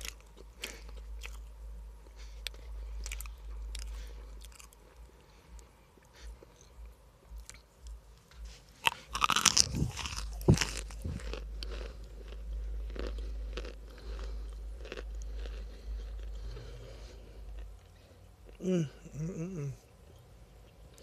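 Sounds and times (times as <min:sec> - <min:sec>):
crunchy food being chewed: 0:00.0 - 0:18.6.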